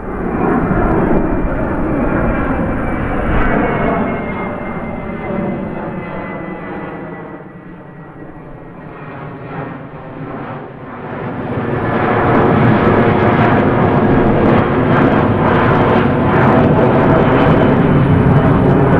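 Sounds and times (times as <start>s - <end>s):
airplane engine rushing: 0.0s - 18.9s.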